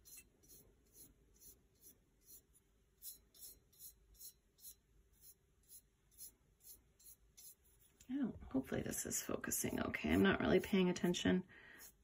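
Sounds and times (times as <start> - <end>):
paintbrush swishing on tumbler: 0.0 - 11.2, 11.8 - 12.0.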